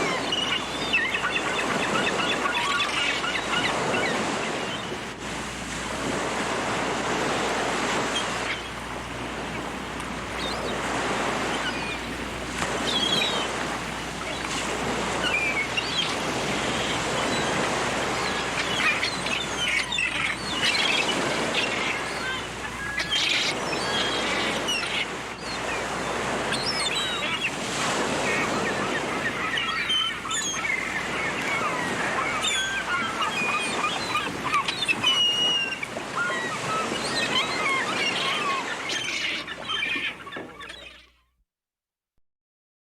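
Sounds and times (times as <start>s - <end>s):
seagulls calling: 0.0s - 5.0s, 6.0s - 41.2s
surf breaking on shore: 0.0s - 39.6s.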